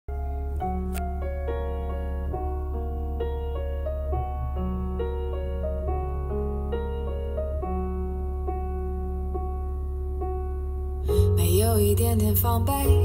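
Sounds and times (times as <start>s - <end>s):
solo piano: 0.1s - 13.0s.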